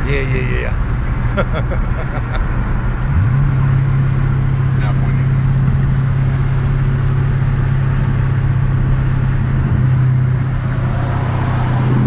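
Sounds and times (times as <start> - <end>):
car engine drone from cabin: 0.0 - 12.0.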